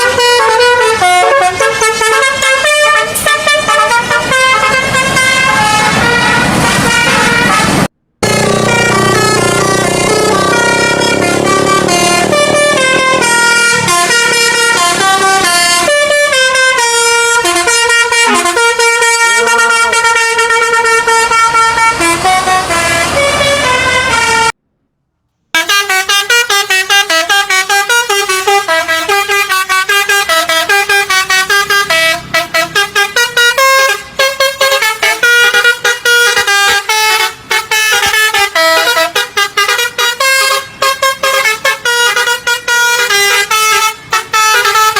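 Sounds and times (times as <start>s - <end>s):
multi-trumpet bus horns playing tunes: 0.0s - 24.6s, 25.6s - 44.9s.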